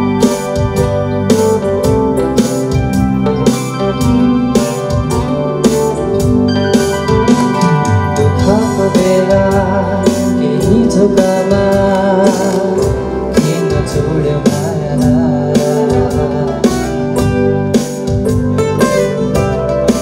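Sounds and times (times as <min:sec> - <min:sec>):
acoustic guitars: 0:00.0 - 0:20.0
bass guitar: 0:00.0 - 0:20.0
keyboard: 0:00.0 - 0:20.0.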